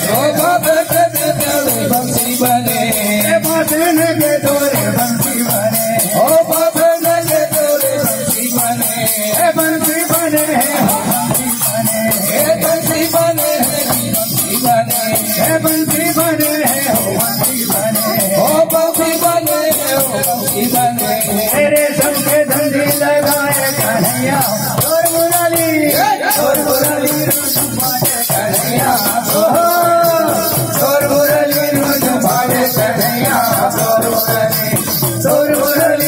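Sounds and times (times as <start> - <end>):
barrel drum beats: 0.0 - 36.0
fast high jingle: 0.0 - 36.0.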